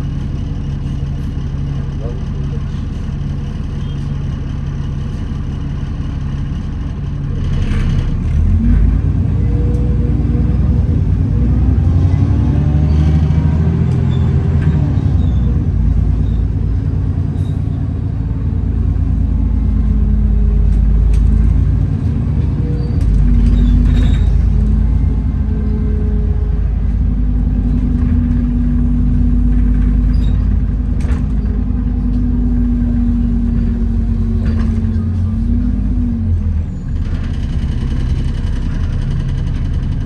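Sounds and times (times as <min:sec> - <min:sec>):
bus engine and drivetrain whine: 0:00.0 - 0:40.0
bus engine idling: 0:00.0 - 0:40.0.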